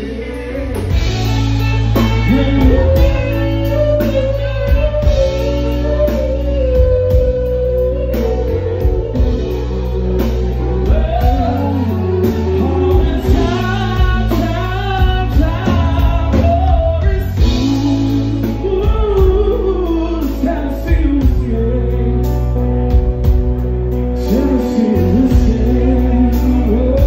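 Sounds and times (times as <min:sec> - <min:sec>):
man singing into microphone: 0:00.0 - 0:22.6, 0:24.1 - 0:27.0
drums: 0:00.0 - 0:27.0
electric guitar: 0:00.0 - 0:27.0.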